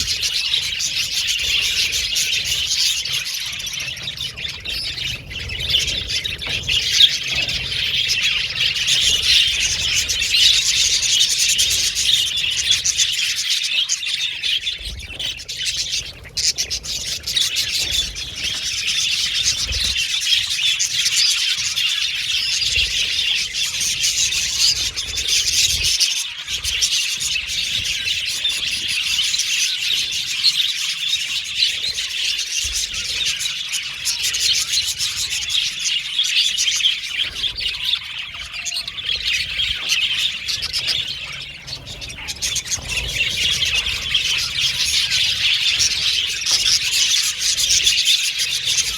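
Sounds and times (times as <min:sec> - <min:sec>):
budgerigars chattering and chirping: 0:00.0 - 0:48.9.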